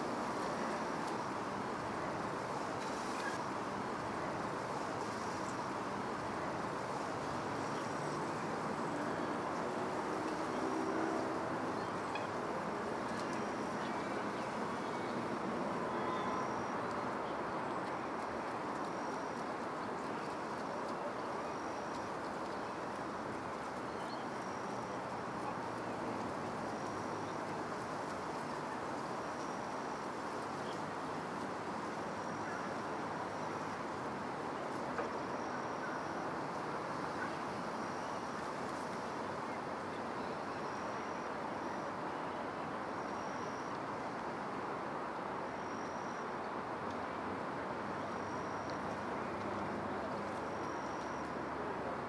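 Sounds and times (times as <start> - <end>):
outdoor hiss-like hum: 0.0 - 52.0.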